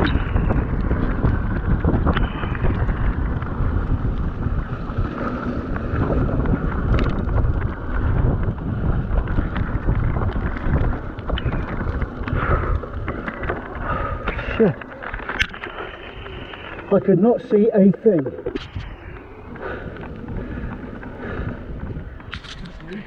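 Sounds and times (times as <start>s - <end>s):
bike clicks and rattles: 0.0s - 23.0s
tyres rumbling on gravel: 0.0s - 23.0s
wind noise on microphone: 0.0s - 23.0s.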